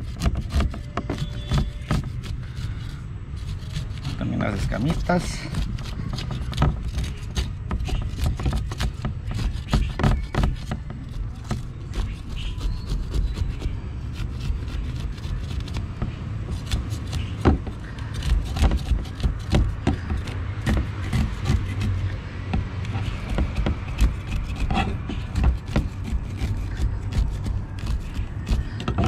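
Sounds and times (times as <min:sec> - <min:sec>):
knife scraping fish scales: 0:00.0 - 0:22.1, 0:22.8 - 0:29.0.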